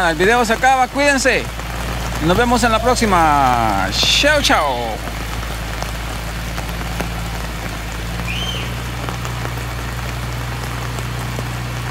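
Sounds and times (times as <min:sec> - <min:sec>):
rain pattering on umbrella: 0:00.0 - 0:11.9.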